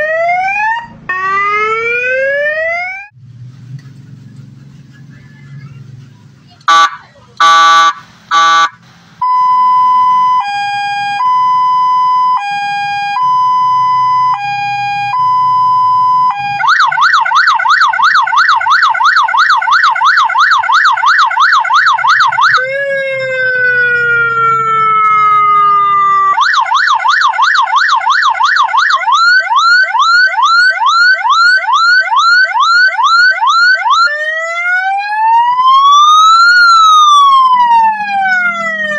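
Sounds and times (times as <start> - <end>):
electronic siren cycling tones: 0.0 - 3.2, 6.7 - 38.9.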